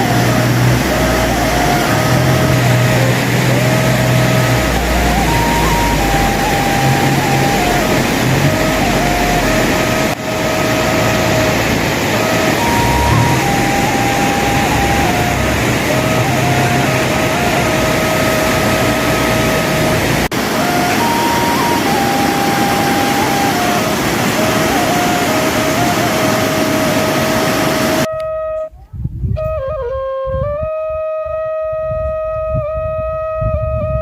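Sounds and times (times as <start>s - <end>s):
loud steady rushing noise: 0.0s - 28.1s
solo flute melody: 0.0s - 34.0s.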